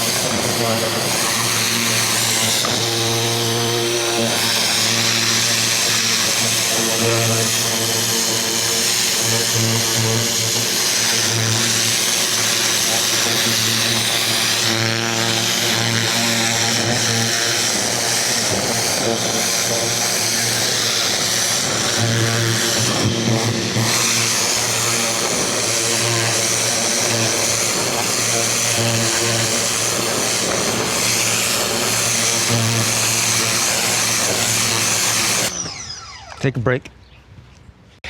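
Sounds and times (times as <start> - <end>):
high-pressure water spray hissing: 0.0 - 35.5
pressure washer pump humming: 0.0 - 36.6.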